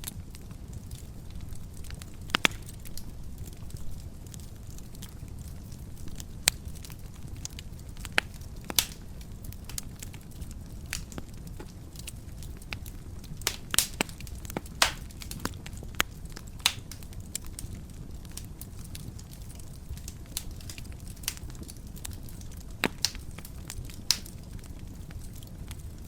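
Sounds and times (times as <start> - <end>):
fire crackling and popping: 0.0 - 26.0
fire flames rumbling: 0.0 - 26.0.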